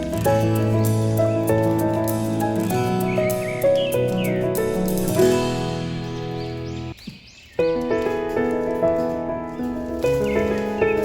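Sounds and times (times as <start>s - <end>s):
background music with held notes: 0.0s - 7.0s, 7.6s - 11.0s.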